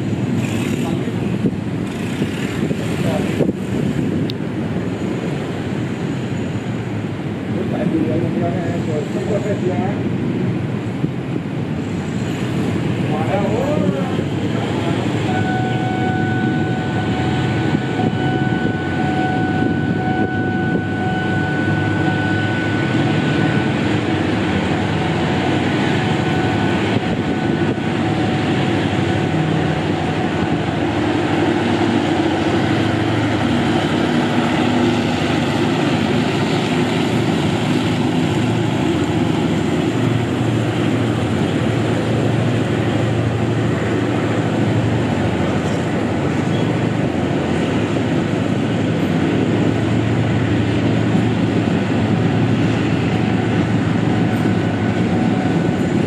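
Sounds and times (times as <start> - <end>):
steady whine: 0.0 - 56.0
train rumbling on rails: 0.0 - 56.0.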